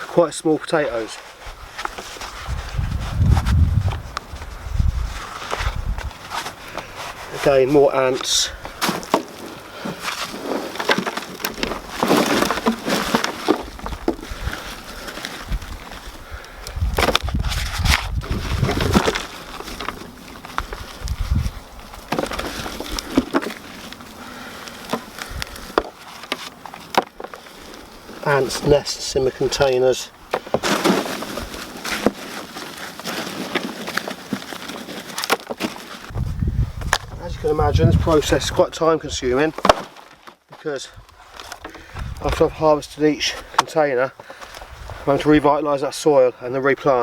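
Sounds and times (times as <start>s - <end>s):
hands digging in dry soil: 0.0s - 43.9s.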